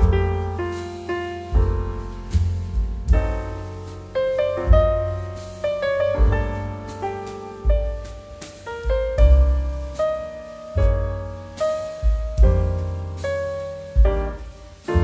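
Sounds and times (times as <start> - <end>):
piano chords over deep bass: 0.0 - 15.0.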